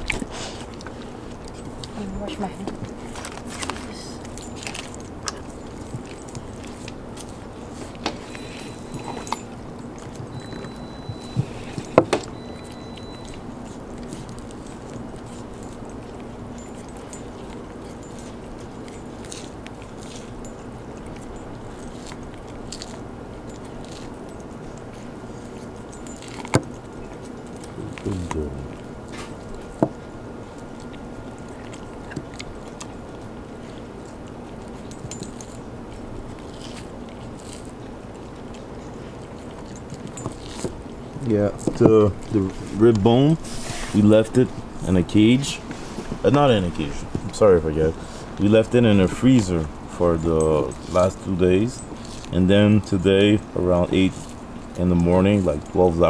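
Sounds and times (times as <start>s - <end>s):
dog gnawing a bone: 0.0s - 56.0s.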